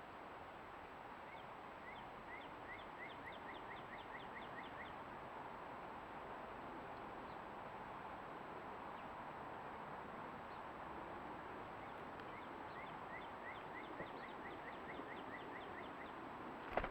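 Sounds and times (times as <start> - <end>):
outdoor background hiss: 0.0 - 16.9.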